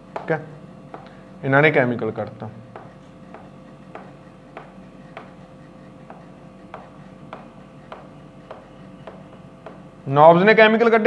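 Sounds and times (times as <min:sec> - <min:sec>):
chalk tapping on chalkboard: 0:00.0 - 0:01.2, 0:01.9 - 0:09.9.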